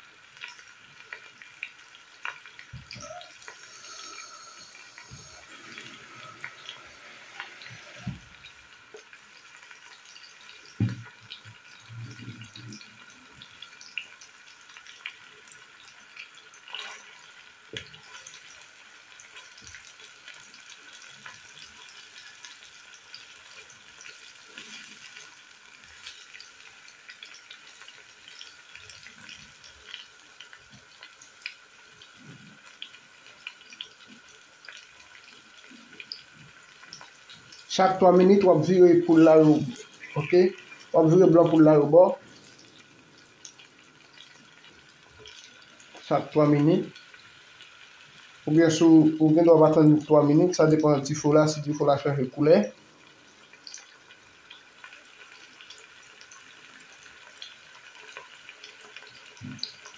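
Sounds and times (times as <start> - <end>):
meat and onion sizzling in oil: 0.0 - 59.9.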